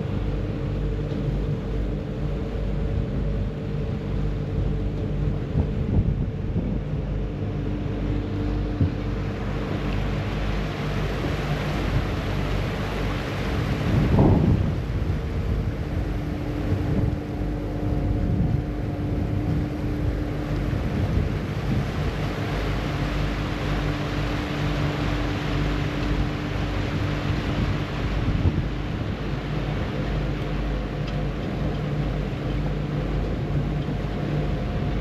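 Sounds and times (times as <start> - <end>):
ferry engine droning: 0.0 - 35.0
wake water washing: 0.0 - 35.0
wind buffeting microphone: 0.0 - 35.0.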